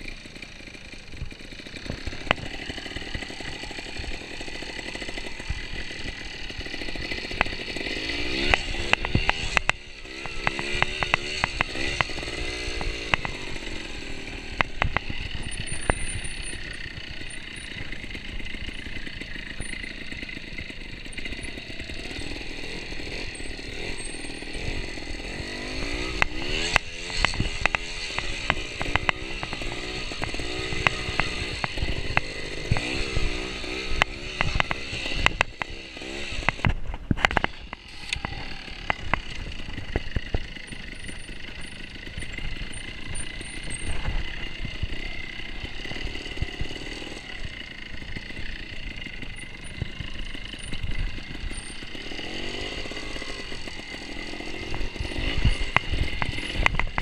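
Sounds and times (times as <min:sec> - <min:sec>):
motorcycle engine revving: 0:00.0 - 0:57.0
bike clattering over rough ground: 0:00.2 - 0:57.0.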